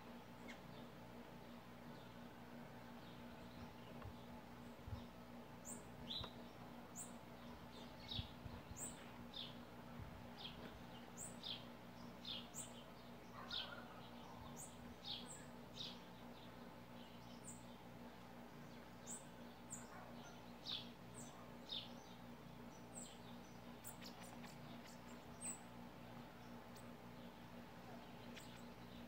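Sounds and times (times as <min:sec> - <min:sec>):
small birds chirping: 0:00.0 - 0:29.0
steady low hum: 0:00.0 - 0:29.0.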